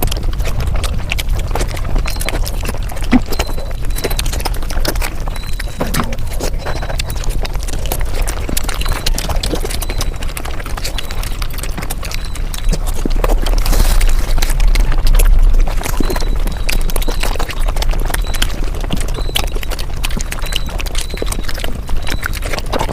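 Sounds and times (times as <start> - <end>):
chewing clicks and crunches: 0.0 - 22.9
steady low hum: 0.0 - 22.9.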